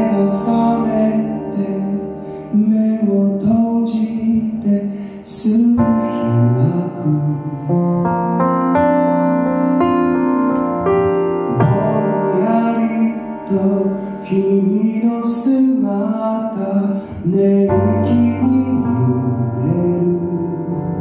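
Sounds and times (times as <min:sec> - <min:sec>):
man singing: 0:00.0 - 0:08.2, 0:11.4 - 0:21.0
piano chords: 0:00.0 - 0:21.0.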